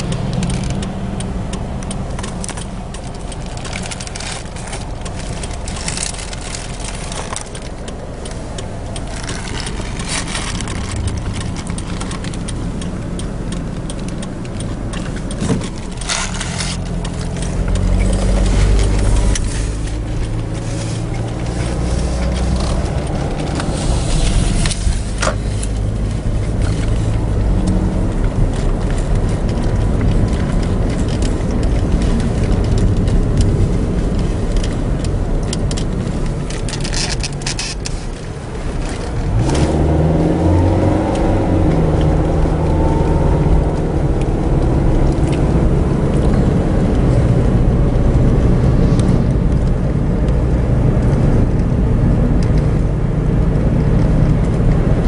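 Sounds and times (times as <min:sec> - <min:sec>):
car engine rumble: 0:00.0 - 0:55.0
clicks and rattles inside car: 0:00.0 - 0:55.0.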